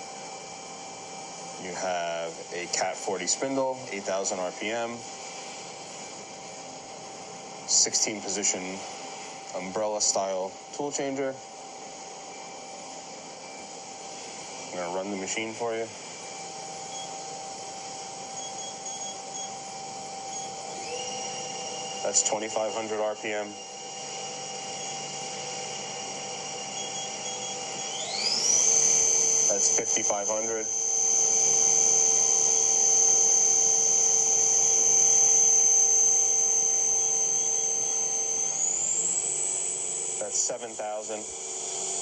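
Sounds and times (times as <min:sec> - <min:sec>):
machine fans and drives humming: 0:00.0 - 0:42.0
mid-pitched machine whine: 0:00.0 - 0:42.0.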